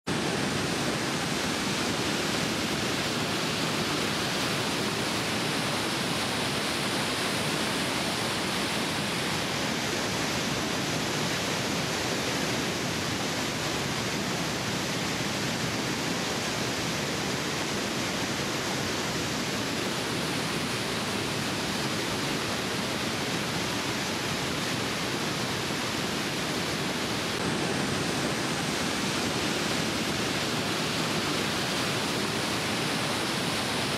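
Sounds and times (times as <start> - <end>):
waterfall and rapids rushing: 0.1 - 33.9.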